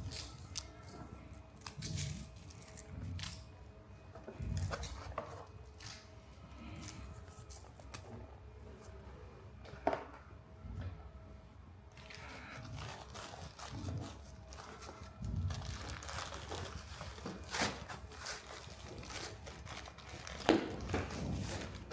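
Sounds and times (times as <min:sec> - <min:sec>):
faint background music: 0:00.0 - 0:21.9.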